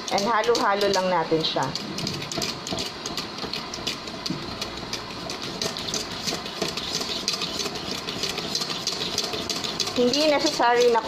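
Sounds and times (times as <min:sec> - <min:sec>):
whisk scraping metal bowl: 0:00.0 - 0:11.0.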